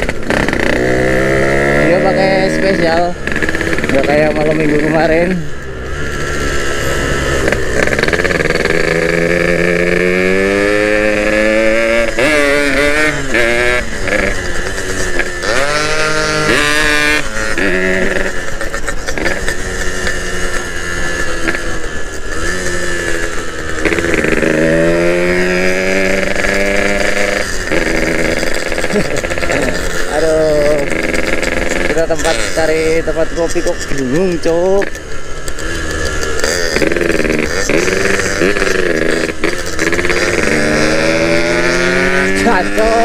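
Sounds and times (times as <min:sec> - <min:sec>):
two-stroke motorcycle engine accelerating: 0:00.0 - 0:43.0.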